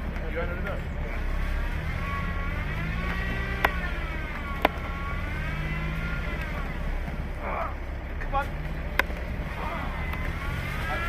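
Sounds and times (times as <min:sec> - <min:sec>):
car engine revving with whine: 0:00.0 - 0:11.0.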